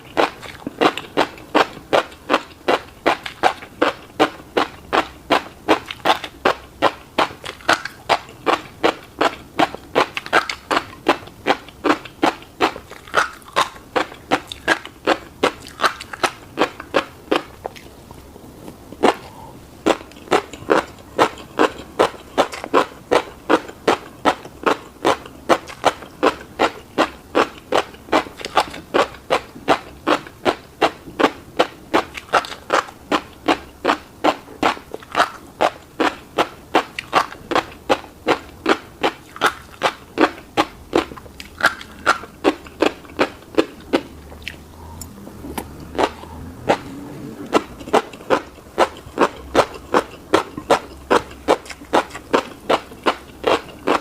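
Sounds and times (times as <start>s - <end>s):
chewing food close up: 0.0s - 54.0s.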